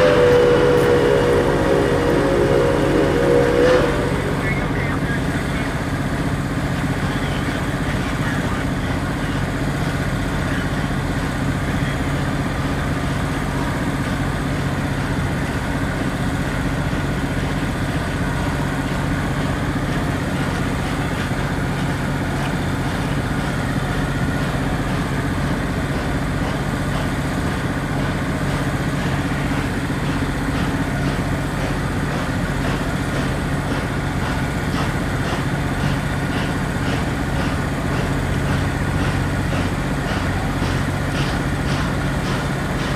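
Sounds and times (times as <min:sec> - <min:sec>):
engine idling hum: 0:00.0 - 0:42.9.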